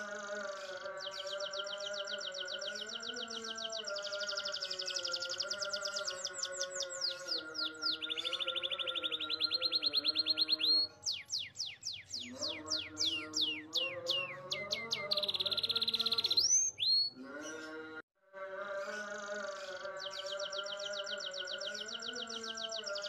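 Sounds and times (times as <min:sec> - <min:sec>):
canary singing trills: 0:00.0 - 0:18.0, 0:18.8 - 0:23.0.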